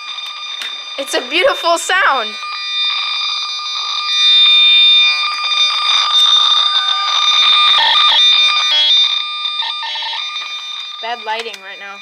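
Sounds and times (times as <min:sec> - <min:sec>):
electronic toy shrill alarm tone: 0:00.0 - 0:12.0.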